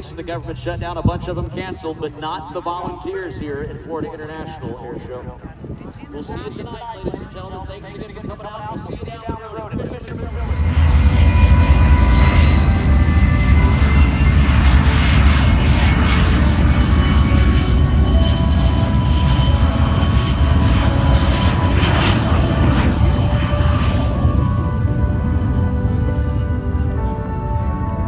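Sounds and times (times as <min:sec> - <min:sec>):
airplane engine drone: 0:00.0 - 0:28.0.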